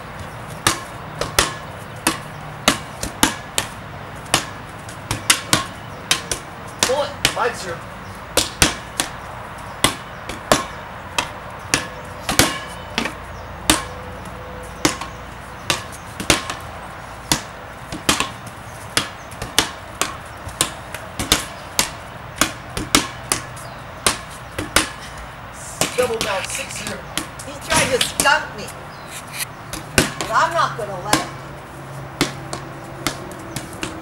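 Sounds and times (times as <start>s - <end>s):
ball bouncing on concrete: 0.0s - 34.0s.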